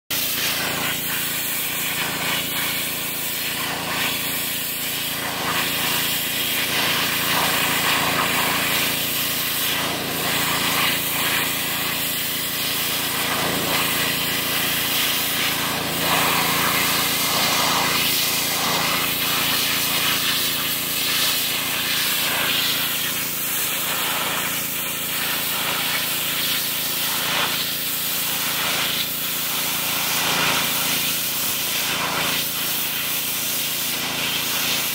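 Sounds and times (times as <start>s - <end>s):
high-pressure spray hissing: 0.1s - 34.9s
pressure washer motor hum: 0.1s - 34.9s.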